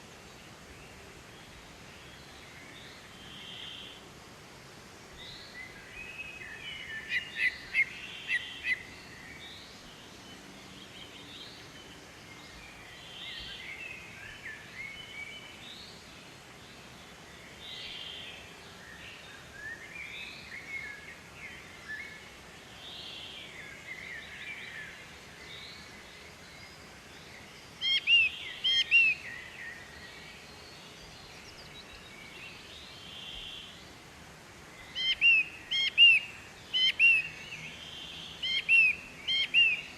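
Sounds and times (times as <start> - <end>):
faint steady hiss: 0.0 - 39.9
birds singing and calling: 5.2 - 34.0, 34.6 - 39.9.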